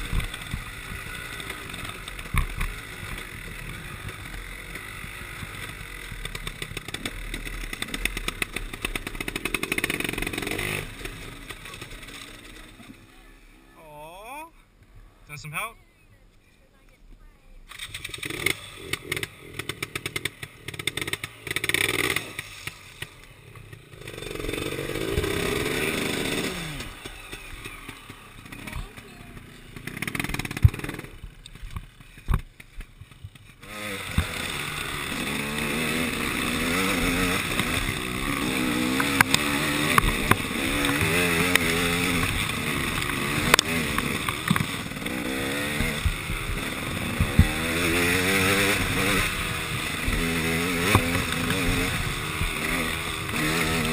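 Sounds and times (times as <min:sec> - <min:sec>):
two-stroke engine running: 0:00.0 - 0:13.3, 0:17.8 - 0:53.9
dirt bike engines revving: 0:00.0 - 0:53.9.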